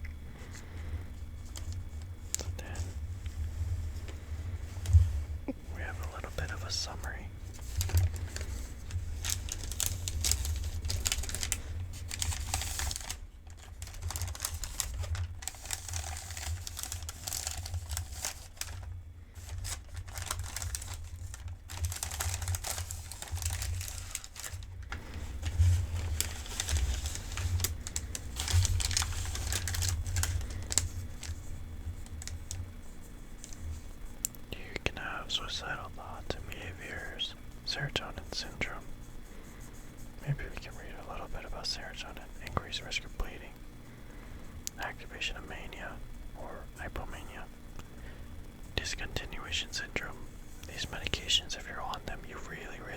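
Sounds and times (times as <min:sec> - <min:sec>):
paper crinkling: 0:00.3 - 0:52.9.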